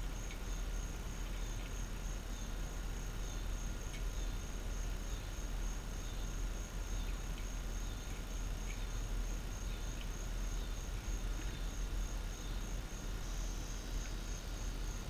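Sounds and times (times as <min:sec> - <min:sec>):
high insect drone: 0:00.0 - 0:15.0
low rumble and hiss: 0:00.0 - 0:15.0.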